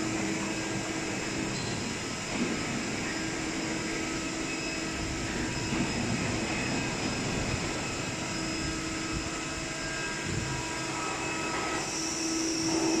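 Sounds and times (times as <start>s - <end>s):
air compressor motor drone: 0.0s - 13.0s.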